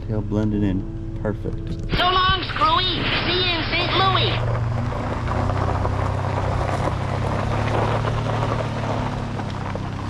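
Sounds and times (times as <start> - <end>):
car engine drone: 0.0 - 10.0
road noise: 0.0 - 10.0.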